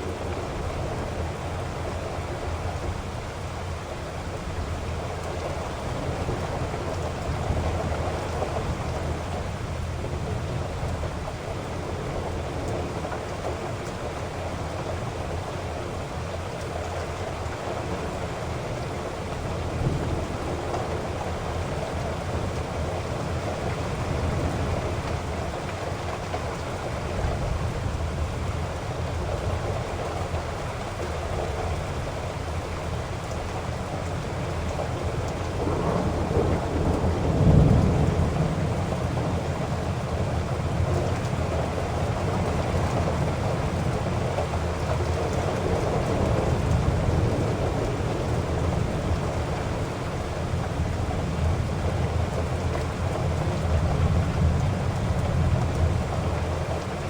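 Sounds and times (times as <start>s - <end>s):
heavy rain falling: 0.0s - 57.0s
low rumble of thunder: 0.0s - 57.0s.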